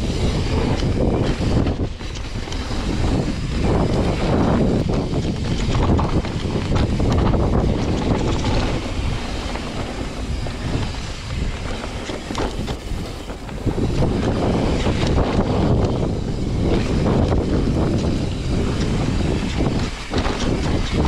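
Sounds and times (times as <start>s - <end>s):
bike knocks and rattles: 0.0s - 21.0s
wind buffeting microphone: 0.0s - 21.0s.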